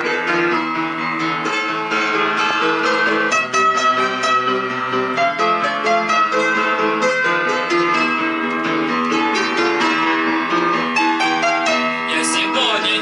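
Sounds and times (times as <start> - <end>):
instrumental music melody over chords: 0.0 - 13.0.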